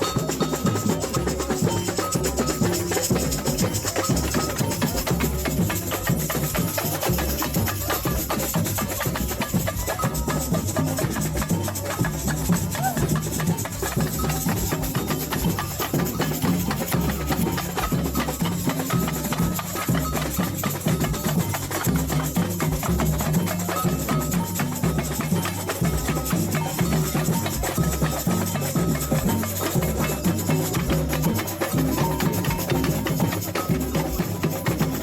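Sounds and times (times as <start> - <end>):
samba music with drums and shakers: 0.0 - 35.0.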